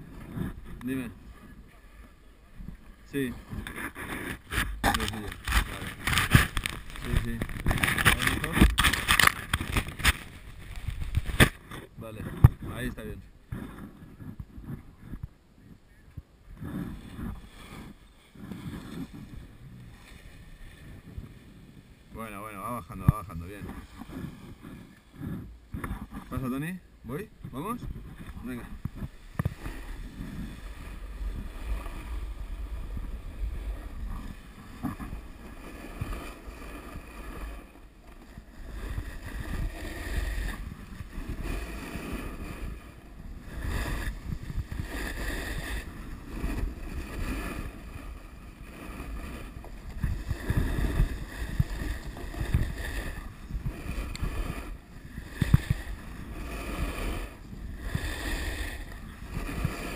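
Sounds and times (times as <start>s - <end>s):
snowboard scraping over snow: 0.0s - 15.2s, 16.5s - 59.9s
wind on microphone: 0.0s - 59.9s.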